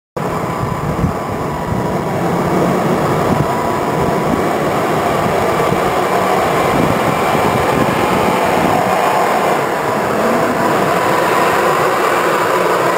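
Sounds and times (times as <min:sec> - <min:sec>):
forklift engine running: 0:00.2 - 0:12.9.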